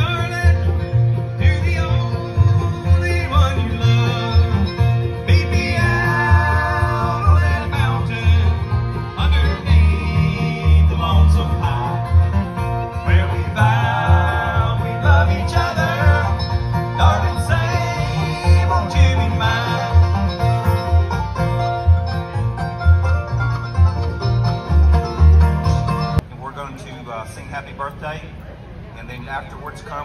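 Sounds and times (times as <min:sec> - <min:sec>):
acoustic string band playing bluegrass: 0:00.0 - 0:30.0.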